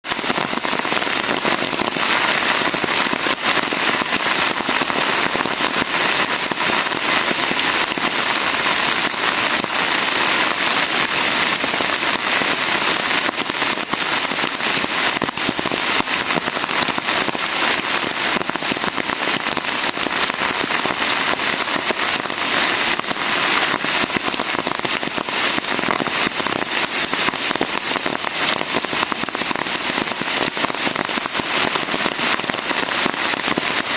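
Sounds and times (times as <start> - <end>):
steady rain patter: 0.0 - 33.9.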